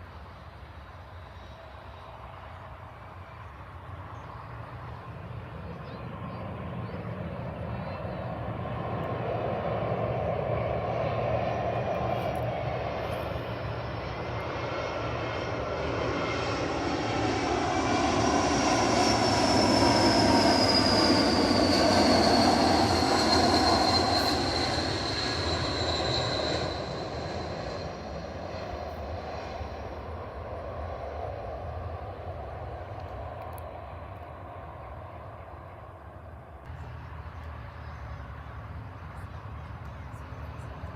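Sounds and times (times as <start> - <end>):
jet airliner passing: 0.0 - 40.9
jet engine whine: 0.0 - 40.9.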